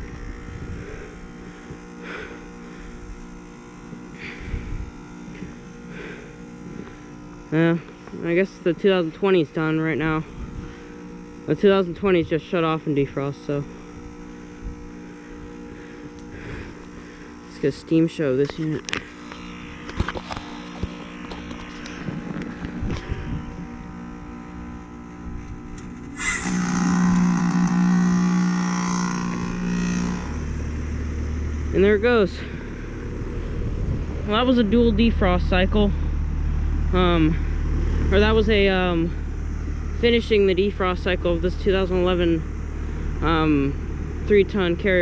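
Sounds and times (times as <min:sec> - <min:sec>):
heat pump electric hum: 0:00.0 - 0:45.0.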